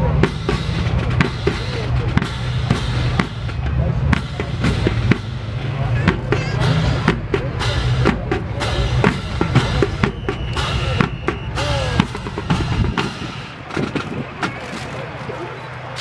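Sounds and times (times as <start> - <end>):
marching snare and bass drums: 0.0 - 16.0.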